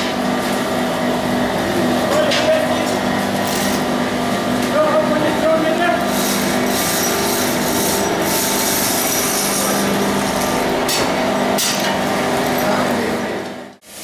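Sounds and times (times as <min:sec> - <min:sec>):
low blower hum: 0:00.2 - 0:13.5.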